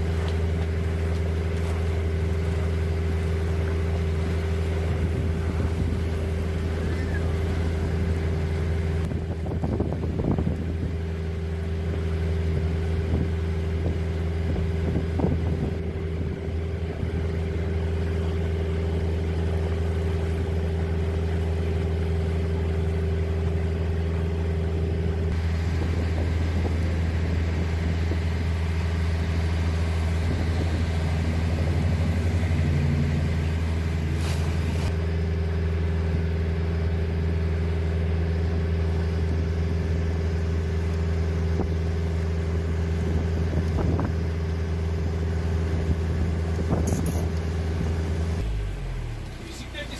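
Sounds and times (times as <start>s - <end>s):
boat engine droning: 0.0s - 49.9s
passing boat engine: 0.0s - 49.9s
water and wind noise: 0.0s - 49.9s.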